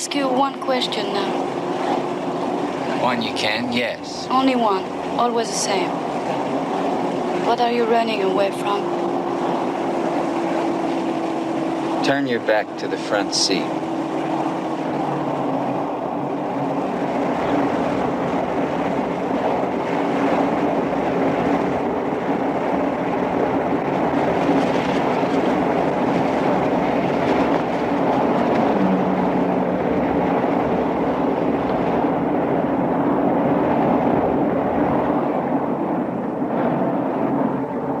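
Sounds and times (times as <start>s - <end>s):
car engine drone: 0.0s - 38.0s
road and wind noise: 0.0s - 38.0s.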